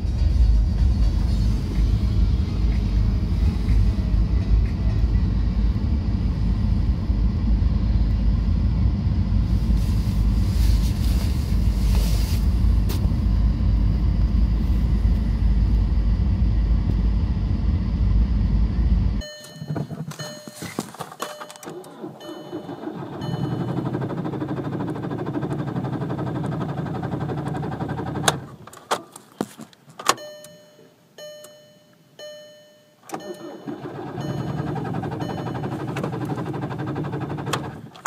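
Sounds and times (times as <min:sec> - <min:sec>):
diesel engine idling: 0:00.0 - 0:19.2, 0:21.7 - 0:28.5, 0:33.2 - 0:38.0.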